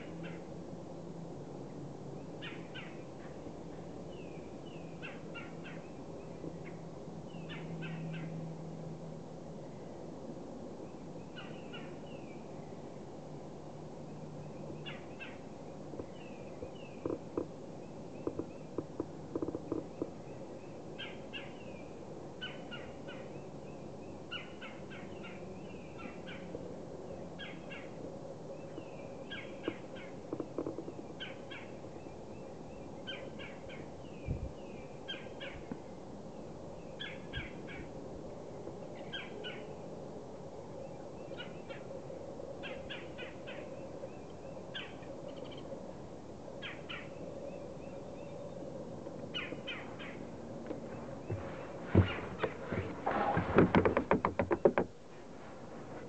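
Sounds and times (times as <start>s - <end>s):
low background hum: 0.0s - 56.0s.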